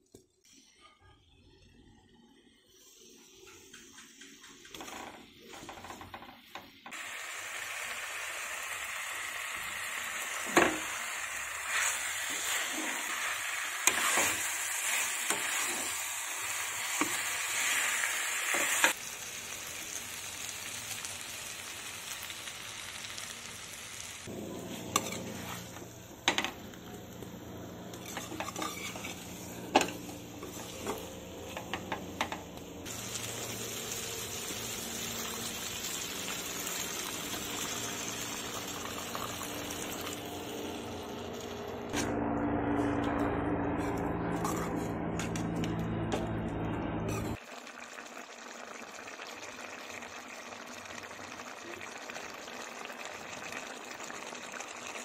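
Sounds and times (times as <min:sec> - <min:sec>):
meat and masala sizzling: 0:02.6 - 0:42.0, 0:47.1 - 0:55.0.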